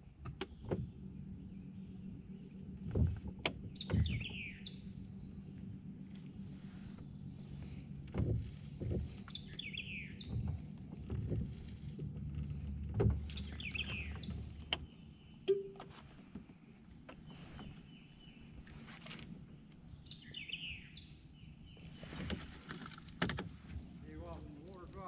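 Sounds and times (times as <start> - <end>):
gear knocking in boat: 0.3 - 19.6, 21.8 - 25.0.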